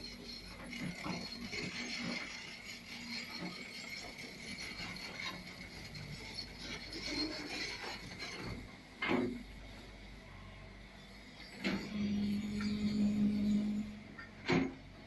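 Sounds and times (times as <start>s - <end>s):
excavator engine whine and rumble: 0.0s - 15.0s.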